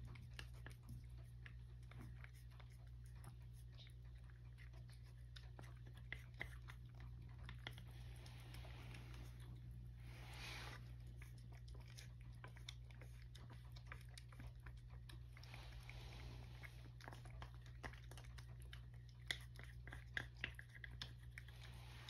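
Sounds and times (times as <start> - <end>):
cat chewing and lip-smacking: 0.0 - 22.0.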